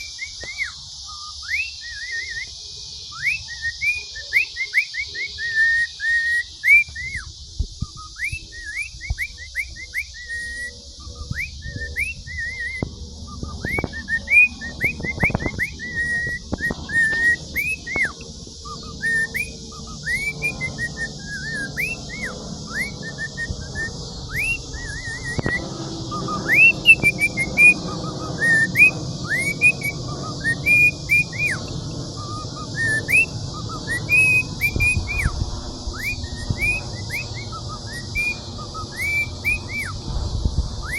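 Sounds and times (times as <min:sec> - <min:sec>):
bird whistling: 0:00.0 - 0:40.9
steady hiss: 0:00.0 - 0:40.9.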